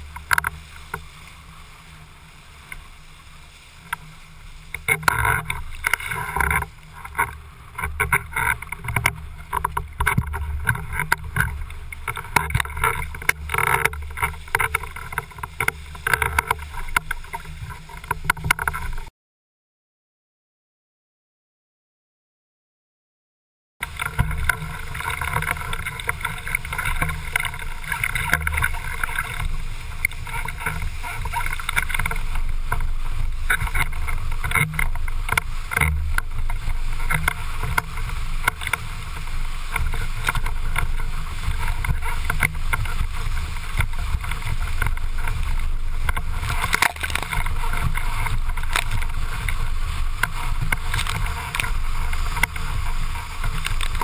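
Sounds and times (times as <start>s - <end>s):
rush of water and wind: 0.0s - 19.1s, 23.8s - 54.0s
board slapping on water: 2.5s - 19.1s, 23.8s - 54.0s.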